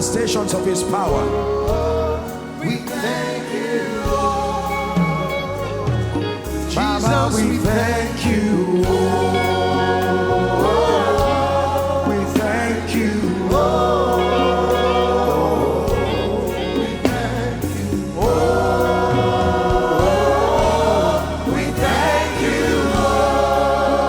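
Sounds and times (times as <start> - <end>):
gospel singing over bass and beat: 0.0 - 24.0.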